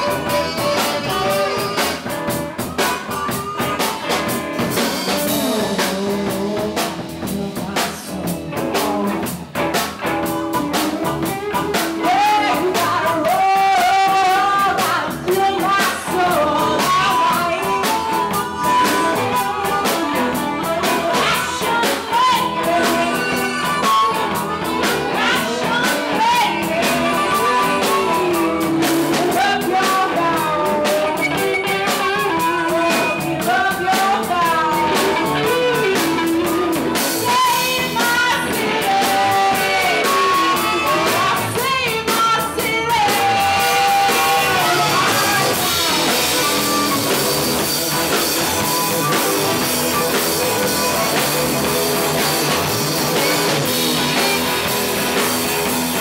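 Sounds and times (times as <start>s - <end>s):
drum kit: 0.0s - 56.0s
electric guitars: 0.0s - 56.0s
person singing lead vocal: 0.0s - 56.0s.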